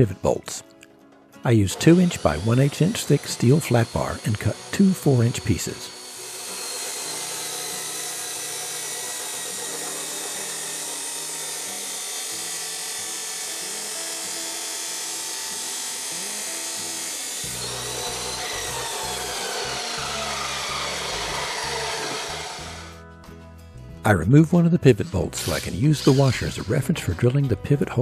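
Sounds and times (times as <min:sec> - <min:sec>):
chop saw grinding through steel: 0:01.6 - 0:23.0, 0:25.2 - 0:27.5
saw motor winding down: 0:01.6 - 0:23.0, 0:25.3 - 0:27.4.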